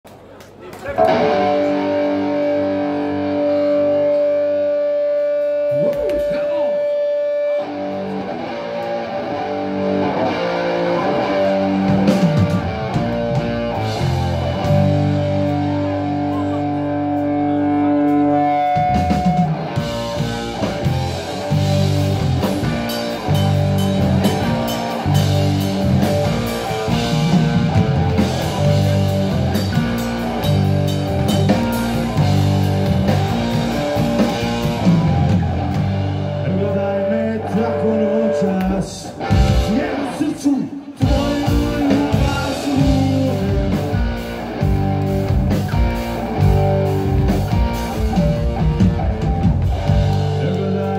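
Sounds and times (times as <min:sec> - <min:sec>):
rock band playing: 0:00.9 - 0:50.9
long held guitar notes: 0:01.0 - 0:50.9.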